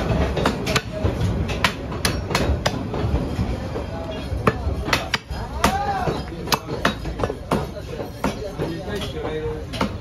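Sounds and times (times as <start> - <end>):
cleavers chopping meat on wood: 0.0 - 10.0.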